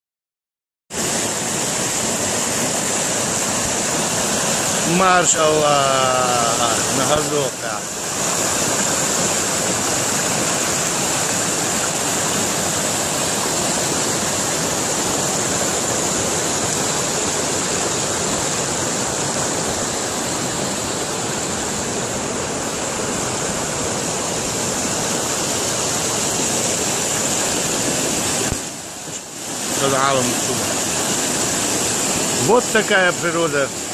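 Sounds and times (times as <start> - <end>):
river rushing over rocks: 0.9 - 33.9.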